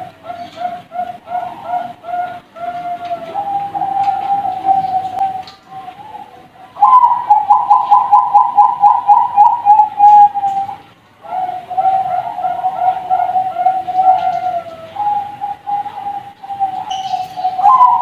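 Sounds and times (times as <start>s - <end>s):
dove cooing: 0.0s - 18.0s.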